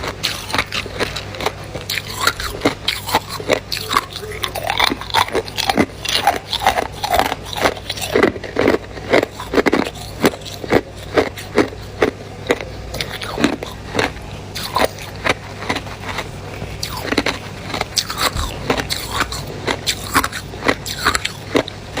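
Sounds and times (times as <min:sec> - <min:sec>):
person chewing ice cubes: 0:00.0 - 0:22.0.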